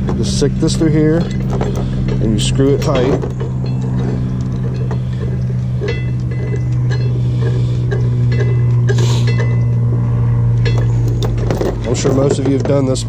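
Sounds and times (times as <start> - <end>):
metal shackle and chain clinks: 0.0 - 9.9, 10.5 - 13.0
loud steady low hum: 0.0 - 13.0.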